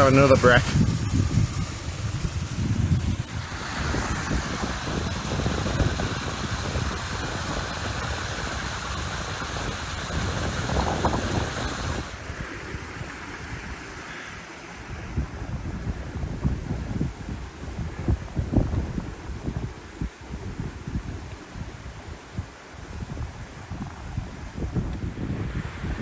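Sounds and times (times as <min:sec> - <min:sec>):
steady rushing hiss: 0:00.0 - 0:26.0
wind buffeting microphone: 0:00.0 - 0:26.0.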